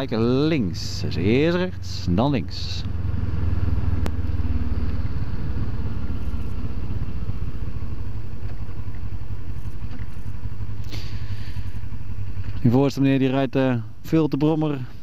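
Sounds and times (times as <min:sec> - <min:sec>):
road noise: 0:00.0 - 0:15.0
motorcycle engine running: 0:00.2 - 0:12.7.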